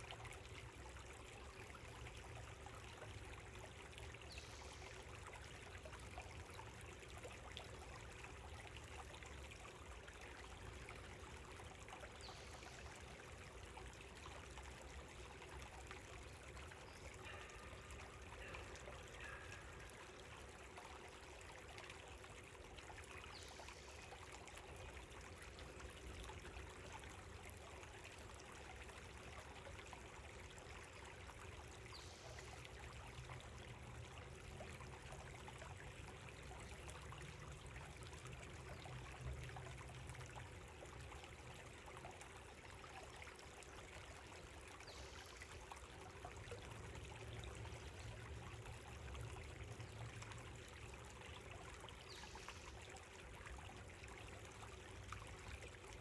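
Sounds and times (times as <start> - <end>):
creek babbling: 0.0 - 56.0.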